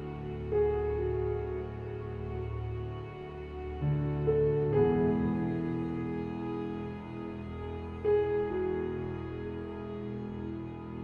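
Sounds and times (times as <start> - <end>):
slow keyboard music: 0.0 - 11.0.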